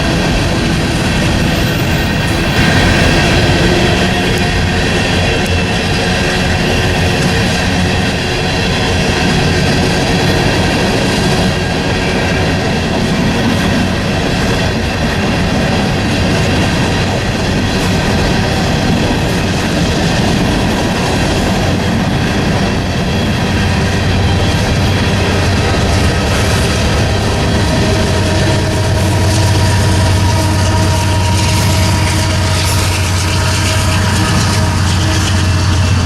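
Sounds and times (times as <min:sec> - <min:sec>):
freight train rumbling past: 0:00.0 - 0:36.0
train wheels clickety-clack: 0:00.0 - 0:36.0.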